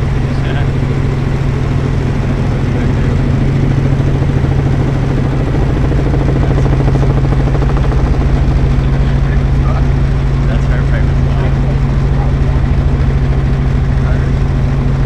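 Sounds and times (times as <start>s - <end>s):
helicopter drone: 0.0s - 15.0s.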